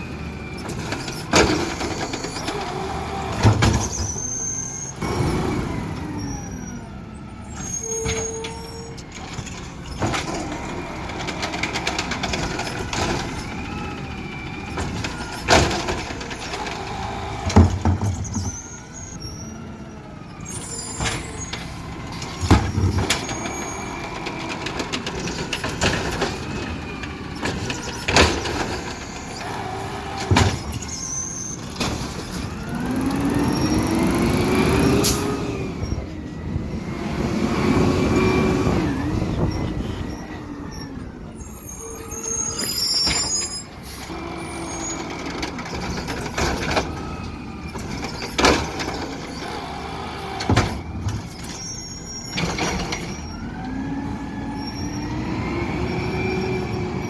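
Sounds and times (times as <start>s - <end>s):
garbage truck engine and hydraulics: 0.0s - 57.0s.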